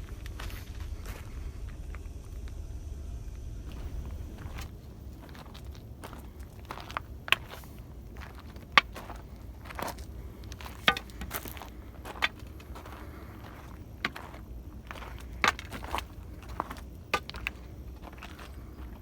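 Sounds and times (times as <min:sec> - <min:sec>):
low rumble: 0:00.0 - 0:19.0
footsteps crunching on rocky trail: 0:03.7 - 0:19.0.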